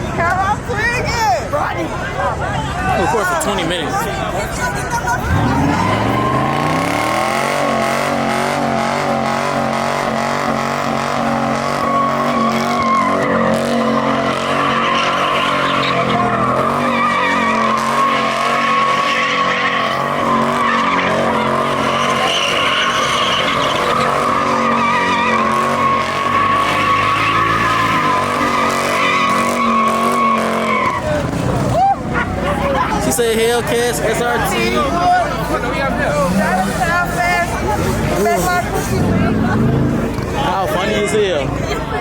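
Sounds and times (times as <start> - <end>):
tyres squealing: 2.6 - 41.6
car engine at high revs: 5.1 - 41.6.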